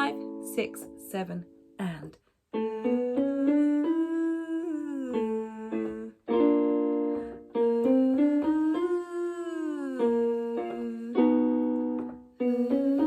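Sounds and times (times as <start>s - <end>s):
piano: 0.0s - 1.8s, 2.5s - 13.0s
person singing vocal exercise: 0.0s - 6.4s, 7.1s - 11.8s, 12.4s - 13.0s.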